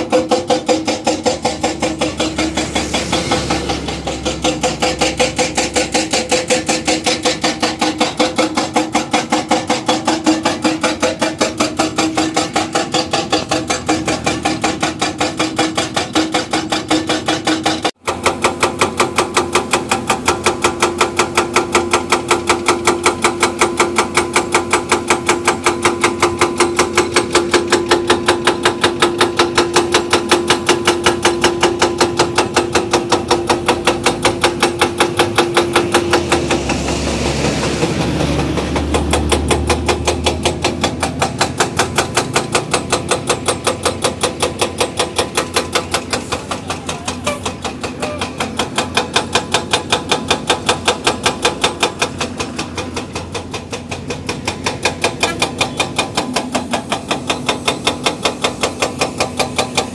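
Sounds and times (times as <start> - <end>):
excavator engine hum: 0.0 - 59.9
hydraulic rock breaker hammering: 0.0 - 59.9.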